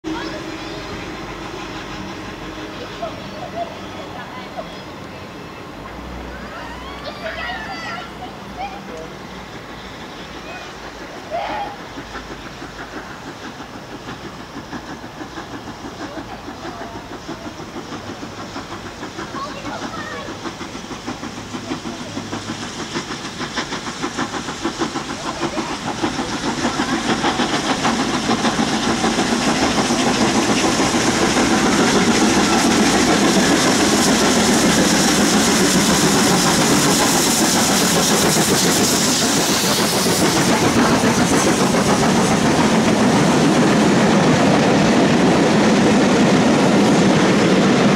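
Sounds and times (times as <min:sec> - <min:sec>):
train coaches rolling by: 0:00.0 - 0:47.9
steam locomotive exhaust beats: 0:00.1 - 0:47.9.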